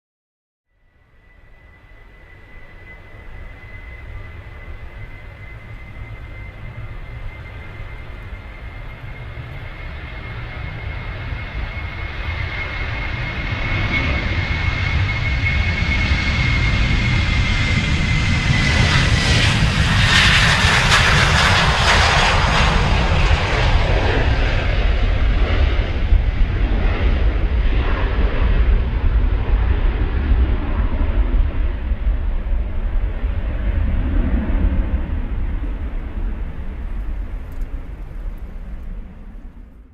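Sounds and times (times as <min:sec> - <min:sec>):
jet engine fan whine: 0:00.8 - 0:39.9
deep jet rumble: 0:00.9 - 0:39.9.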